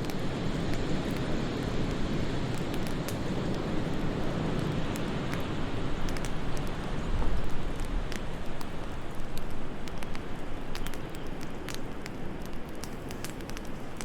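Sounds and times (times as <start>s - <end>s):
fireplace crackling and popping: 0.0s - 14.0s.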